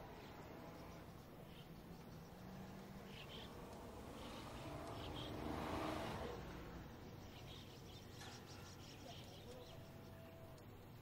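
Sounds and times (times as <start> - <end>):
chirping calls: 0.0 - 11.0.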